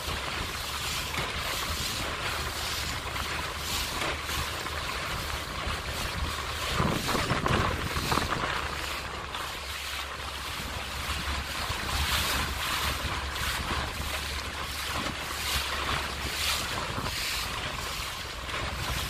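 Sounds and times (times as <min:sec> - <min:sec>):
low steady hum: 0:00.0 - 0:19.0
river water splashing: 0:00.0 - 0:19.0
wind on microphone: 0:00.0 - 0:19.0.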